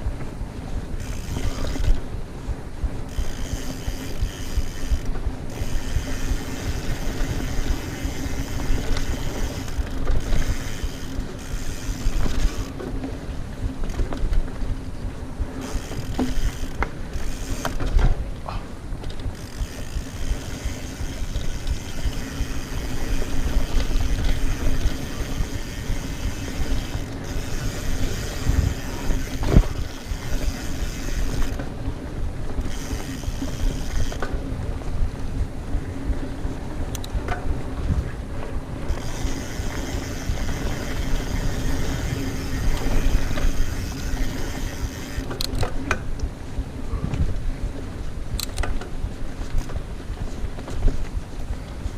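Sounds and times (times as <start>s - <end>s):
bike tyres rumbling on dirt: 0.0s - 51.9s
wind buffeting microphone: 0.0s - 51.9s
bike chain and freehub rattling: 0.6s - 46.2s.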